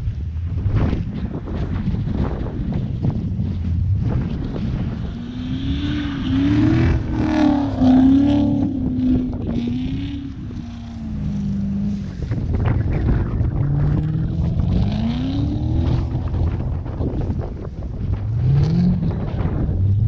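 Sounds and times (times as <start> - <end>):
car engine revving: 3.5 - 20.0
rough low noise: 3.6 - 20.0.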